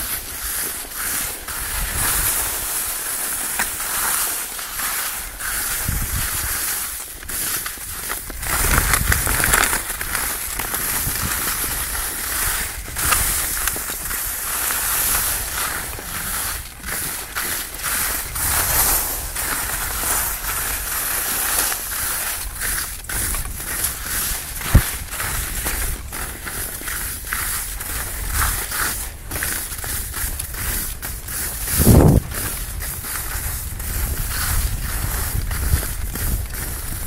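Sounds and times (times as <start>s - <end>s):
skis scraping over snow: 0.0s - 37.0s
wind rumbling on microphone: 1.2s - 3.0s, 5.2s - 21.0s, 21.8s - 37.0s.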